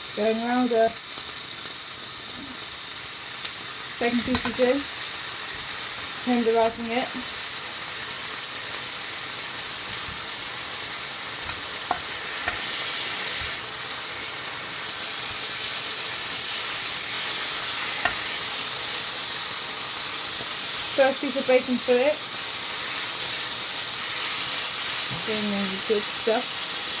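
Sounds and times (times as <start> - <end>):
bacon sizzling in frying pan: 0.0 - 27.0.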